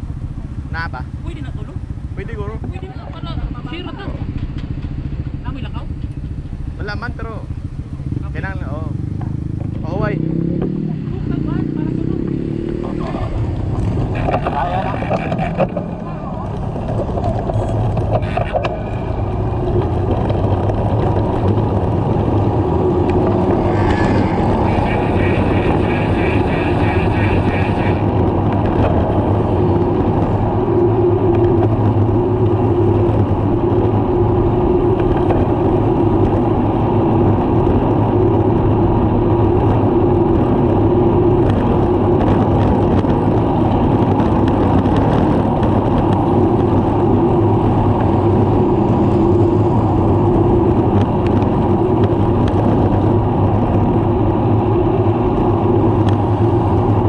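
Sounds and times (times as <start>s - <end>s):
tyres on asphalt: 0.0s - 57.0s
wind rush on microphone: 0.0s - 57.0s.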